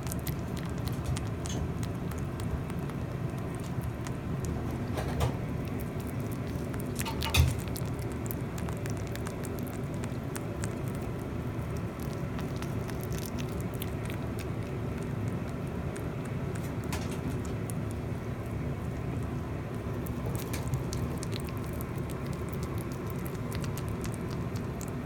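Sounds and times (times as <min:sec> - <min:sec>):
rabbit chewing: 0:00.0 - 0:25.0
steady low hum: 0:00.0 - 0:25.0.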